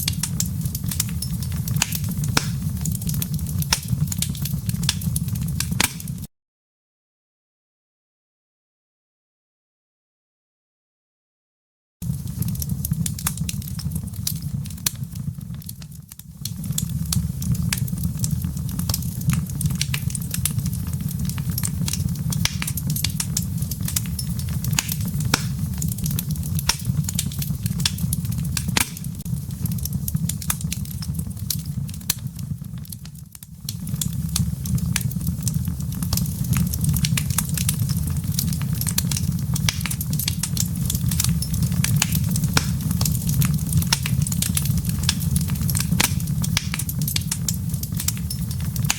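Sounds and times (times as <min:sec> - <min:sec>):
low fire rumble: 0:00.0 - 0:06.3, 0:12.0 - 0:48.9
wood fire crackling and popping: 0:00.0 - 0:06.3, 0:12.0 - 0:48.9.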